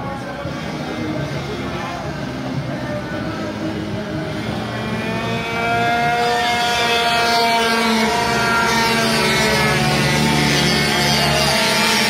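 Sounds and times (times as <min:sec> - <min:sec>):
racing motorcycle engines buzzing: 0:00.0 - 0:12.0.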